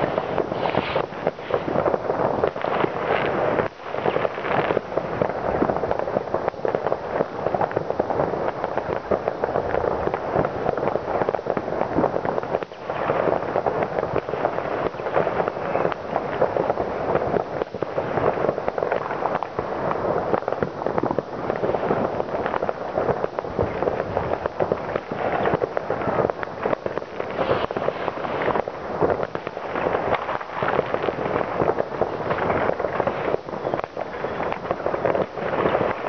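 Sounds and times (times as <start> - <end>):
fireworks and firecrackers crackling: 0.0 - 36.0.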